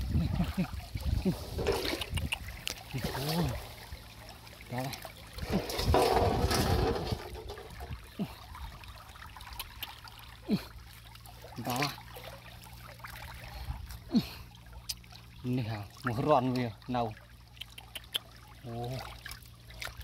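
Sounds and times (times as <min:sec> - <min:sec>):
wet squelches: 0:00.0 - 0:05.9, 0:06.8 - 0:20.0
mud and water sloshing: 0:00.0 - 0:20.0.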